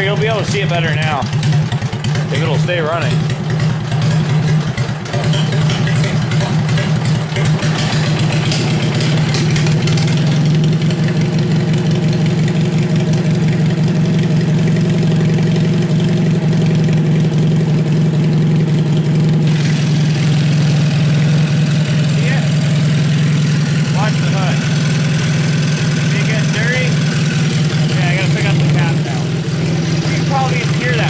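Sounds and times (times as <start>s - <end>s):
tractor engine idling raggedly: 0.0s - 31.0s.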